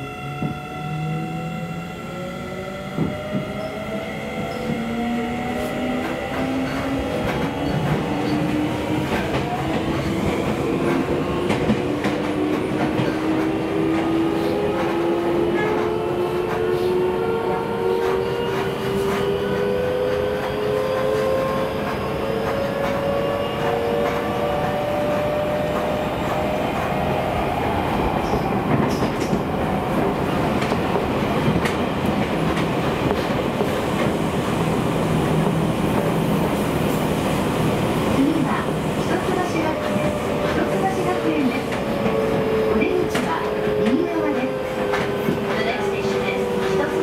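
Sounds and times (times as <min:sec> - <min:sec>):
wheels rumbling on rails: 0:00.2 - 0:47.0.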